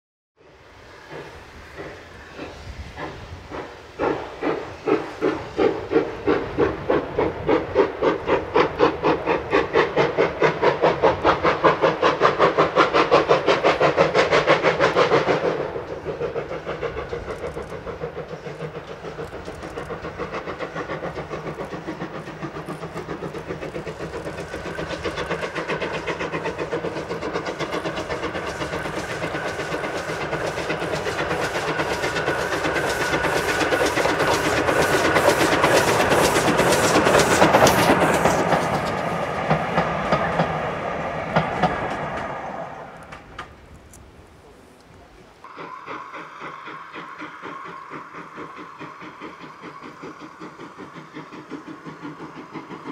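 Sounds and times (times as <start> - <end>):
steam locomotive exhaust chuffing: 0.4 - 44.2, 45.4 - 52.9.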